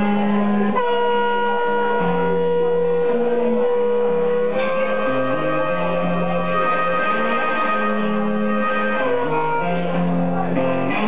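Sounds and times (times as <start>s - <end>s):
slide guitar playing blues: 0.0s - 11.0s.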